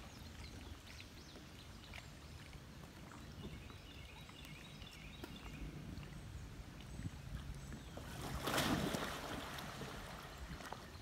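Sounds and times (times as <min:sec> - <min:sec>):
low river rumble: 0:00.0 - 0:11.0.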